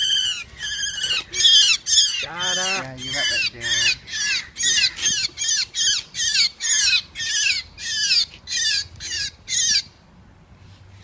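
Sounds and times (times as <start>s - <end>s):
bird distress calls: 0.0s - 10.0s.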